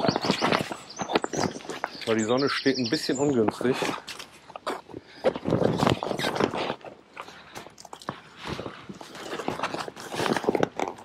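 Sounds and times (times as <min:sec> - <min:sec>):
tent fabric and plastic rustling: 0:00.0 - 0:11.0.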